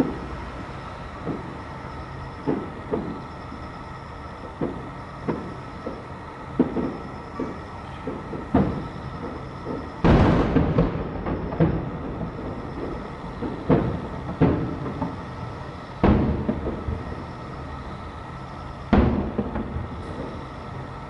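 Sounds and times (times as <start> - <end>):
smaller firework bangs: 0.0 - 21.0
firework booms echoing: 1.2 - 3.7, 4.4 - 17.8, 18.8 - 21.0.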